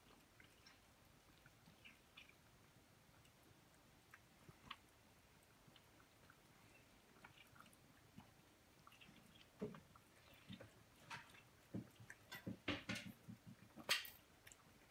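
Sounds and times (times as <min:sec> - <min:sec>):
cats chewing: 0:00.0 - 0:14.9.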